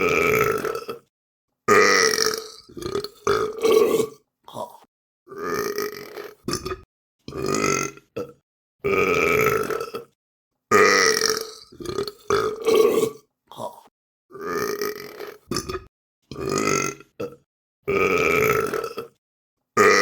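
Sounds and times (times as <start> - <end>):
person burping loudly: 0.0 - 1.1, 1.7 - 19.2, 19.8 - 20.0.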